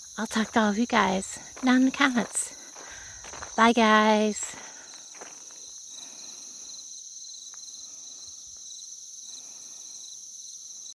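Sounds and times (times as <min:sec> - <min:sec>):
pulsing insect song: 0:00.0 - 0:11.0.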